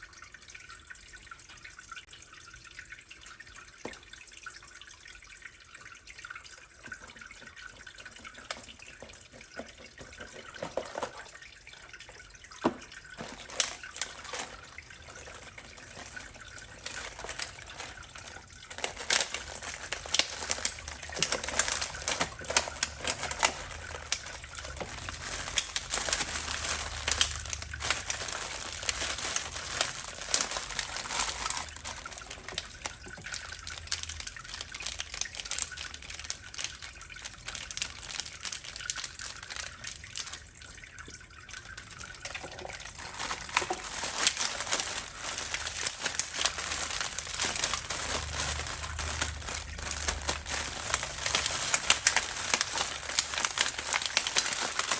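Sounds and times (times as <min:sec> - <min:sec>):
water dripping and splashing: 0:00.0 - 0:54.9
water trickling: 0:00.0 - 0:54.9.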